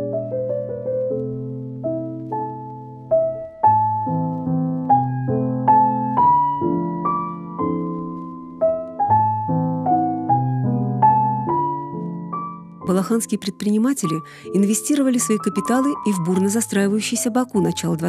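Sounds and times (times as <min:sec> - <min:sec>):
slow solo piano: 0:00.0 - 0:18.0.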